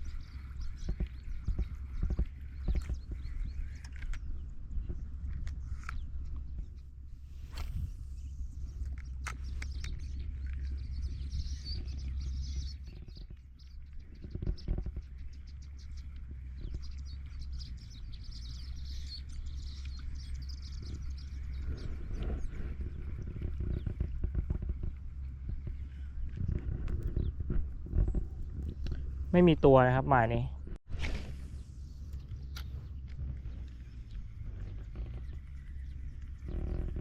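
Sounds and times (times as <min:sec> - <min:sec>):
small birds chirping: 0:00.0 - 0:37.0
steady low rumble: 0:00.0 - 0:37.0.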